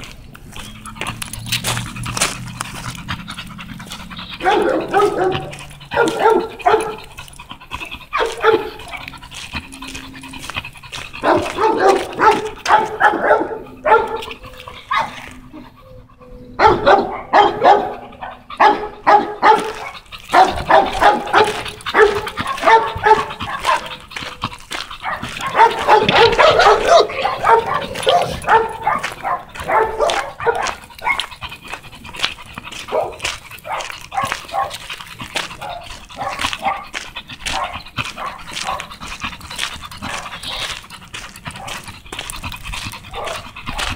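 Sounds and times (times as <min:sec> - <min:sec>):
dog panting: 0:00.0 - 0:43.9.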